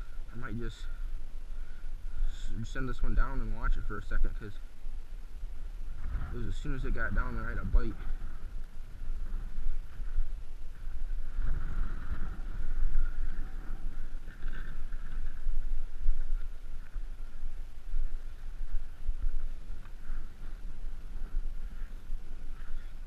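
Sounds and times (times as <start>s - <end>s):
faint steady hiss: 0.0s - 23.0s
wind buffeting microphone: 0.0s - 23.0s.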